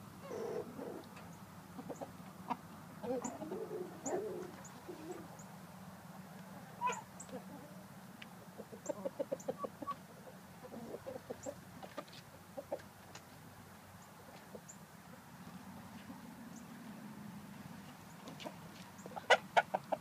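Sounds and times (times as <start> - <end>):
roosters clucking: 0.0 - 20.0.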